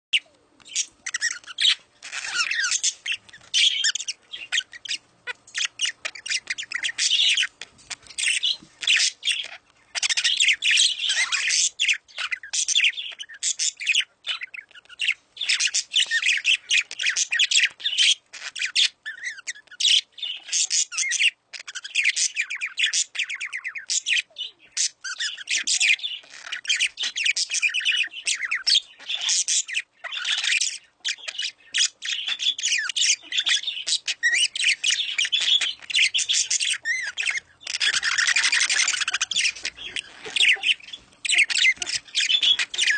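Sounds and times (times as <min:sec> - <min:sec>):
caged birds chirping and squawking: 0:00.1 - 0:42.9.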